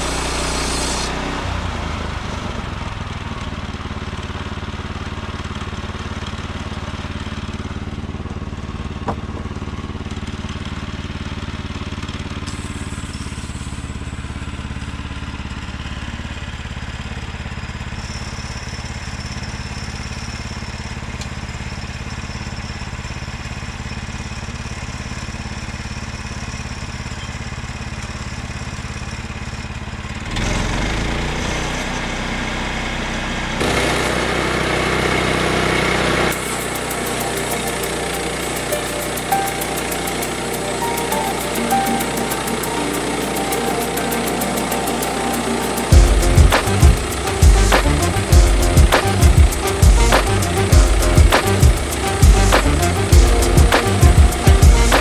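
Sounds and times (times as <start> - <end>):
sawmill petrol engine running: 0.0 - 55.0.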